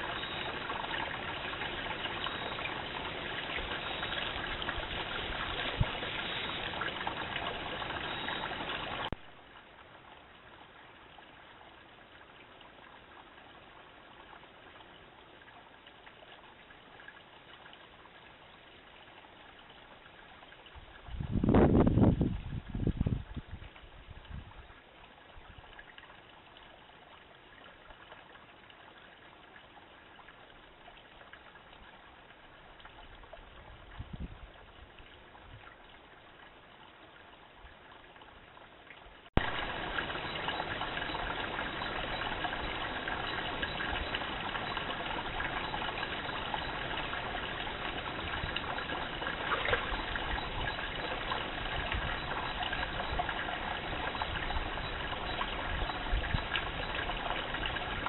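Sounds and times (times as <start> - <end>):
water trickling over rocks: 0.0 - 58.0.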